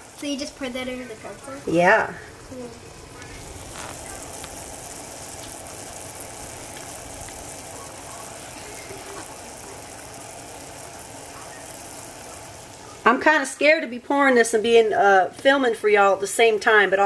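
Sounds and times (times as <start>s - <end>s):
toffee bubbling in a saucepan: 0.0s - 17.0s.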